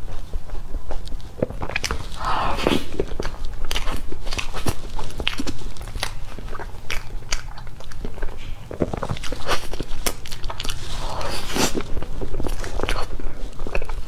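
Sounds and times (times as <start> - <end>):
chewing clicks: 0.1 - 14.0.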